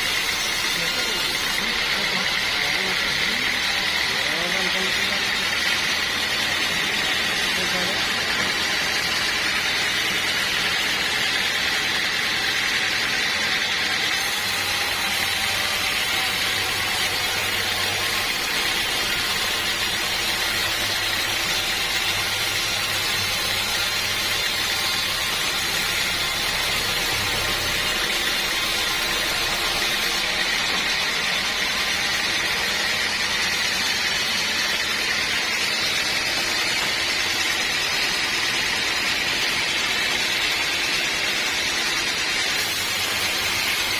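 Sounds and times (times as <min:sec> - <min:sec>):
sawmill saw hissing whine: 0:00.0 - 0:43.9.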